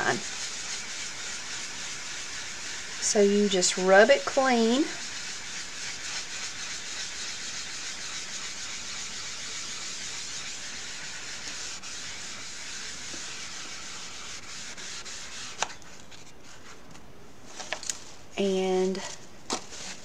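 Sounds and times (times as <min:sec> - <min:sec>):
eraser scrubbing board: 0:00.0 - 0:16.8.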